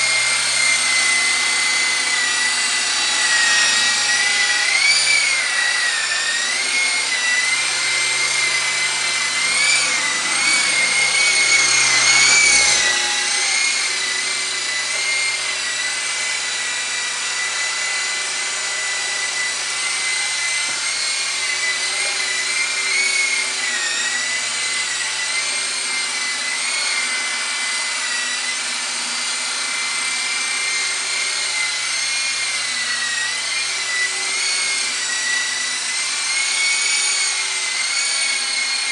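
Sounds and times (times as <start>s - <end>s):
rc helicopter whine: 0.0s - 38.9s.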